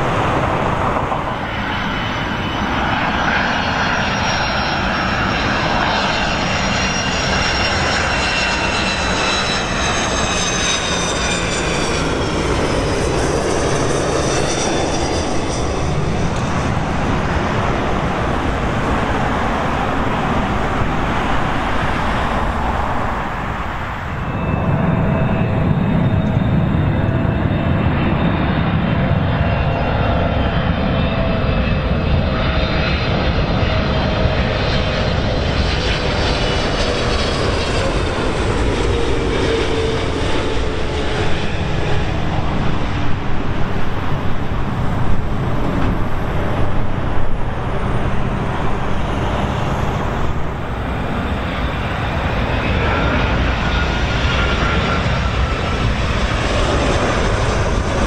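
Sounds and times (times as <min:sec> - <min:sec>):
jet plane roaring overhead: 0:00.0 - 0:58.0.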